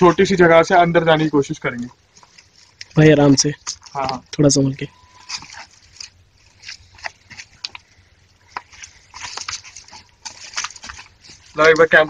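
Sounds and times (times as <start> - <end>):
leaves and twigs rustling: 0.0 - 12.0.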